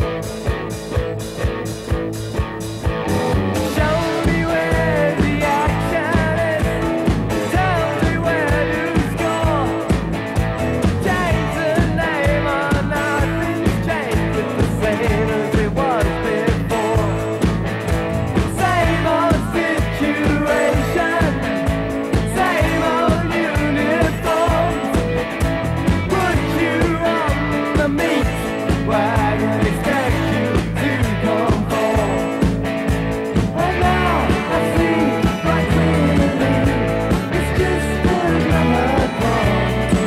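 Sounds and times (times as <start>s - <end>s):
drums beating: 0.0s - 40.0s
electric guitars: 0.0s - 40.0s
rock song with male vocals: 0.0s - 40.0s.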